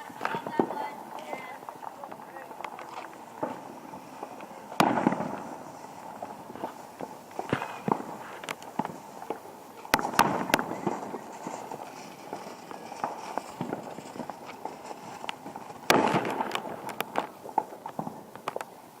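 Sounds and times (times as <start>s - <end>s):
fireworks bangs: 0.0s - 19.0s
fireworks crackling: 0.0s - 19.0s
small fireworks pops: 0.0s - 19.0s.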